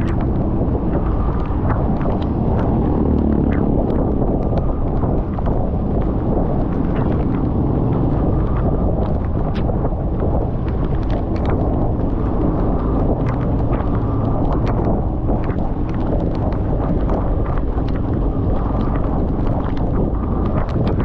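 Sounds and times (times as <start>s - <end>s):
raindrops ticking on microphone: 0.0s - 21.0s
wind rumble on microphone: 0.0s - 21.0s.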